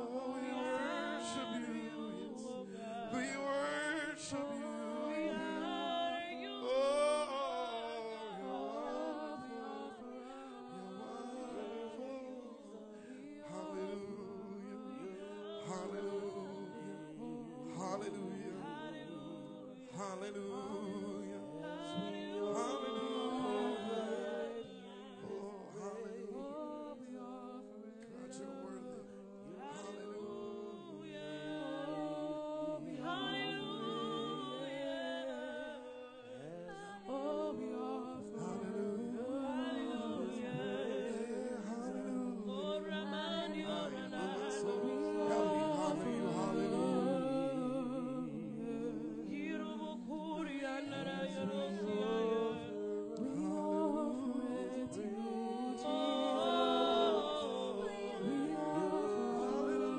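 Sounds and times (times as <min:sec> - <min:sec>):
gospel choir singing: 0:00.0 - 0:59.9.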